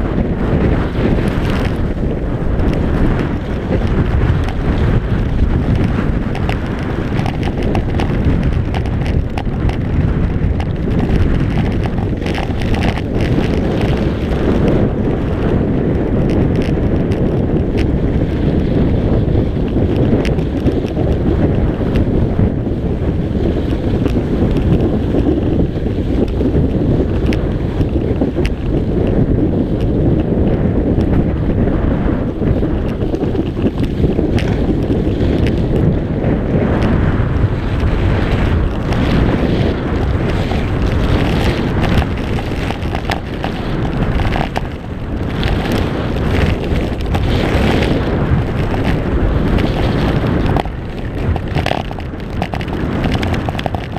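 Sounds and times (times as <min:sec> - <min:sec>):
skis scraping over packed snow: 0:00.0 - 0:53.9
wind buffeting microphone: 0:00.0 - 0:53.9.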